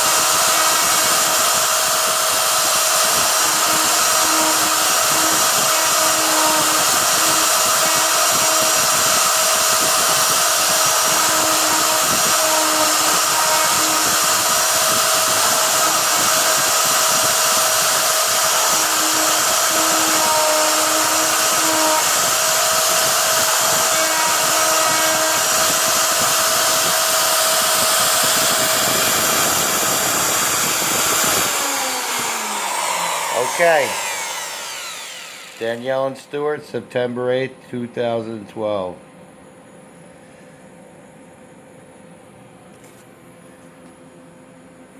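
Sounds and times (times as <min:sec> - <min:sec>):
router spindle whirring: 0:00.0 - 0:36.2.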